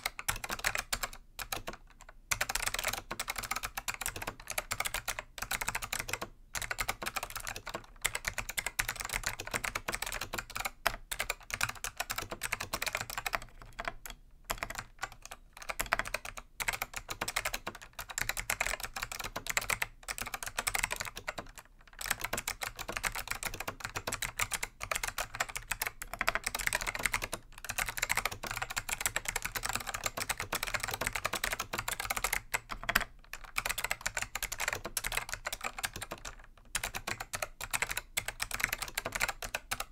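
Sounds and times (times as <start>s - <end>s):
fast clicky keyboard typing: 0.0s - 39.9s.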